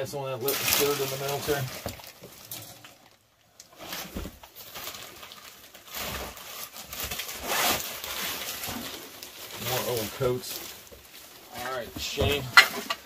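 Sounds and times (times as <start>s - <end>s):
garment bags and coats rustling: 0.3s - 13.0s.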